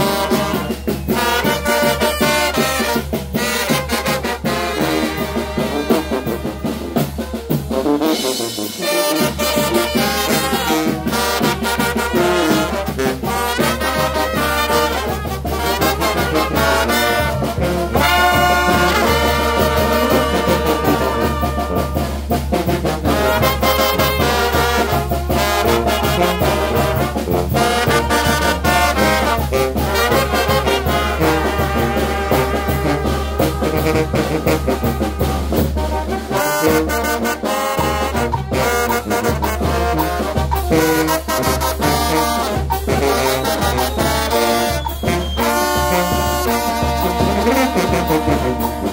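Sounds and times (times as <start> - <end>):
drum kit: 0.0 - 48.9
trumpets and trombones: 0.0 - 48.9.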